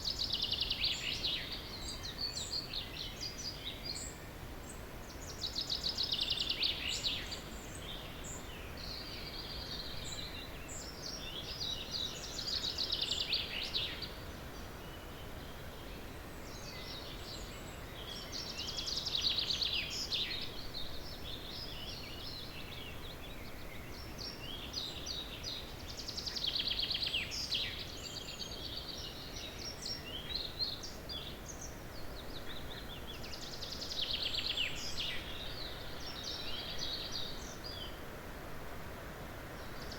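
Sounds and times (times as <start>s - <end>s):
low background hiss: 0.0s - 39.9s
songbirds singing: 0.0s - 39.9s.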